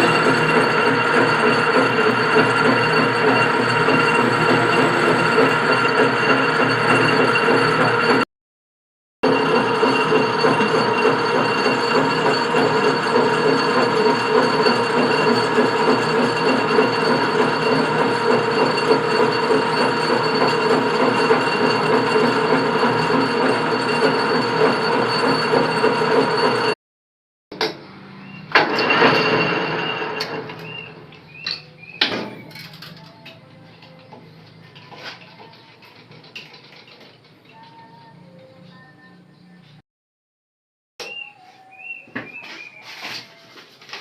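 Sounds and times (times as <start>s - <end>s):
metal lathe running: 0.0s - 8.2s, 9.2s - 26.8s, 27.6s - 38.1s.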